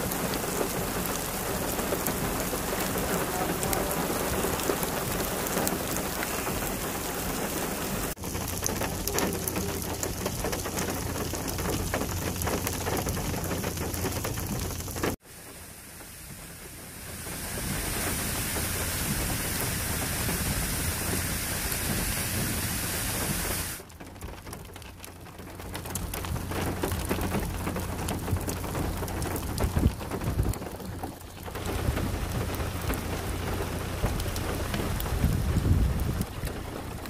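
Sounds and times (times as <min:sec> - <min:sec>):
heavy rain falling: 0:00.0 - 0:37.0
runoff water pouring down rocks: 0:00.0 - 0:37.0.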